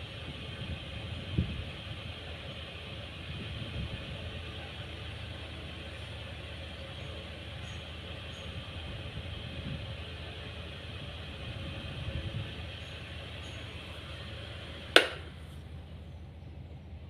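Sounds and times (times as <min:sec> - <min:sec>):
desk fan whirring: 0:00.0 - 0:17.0.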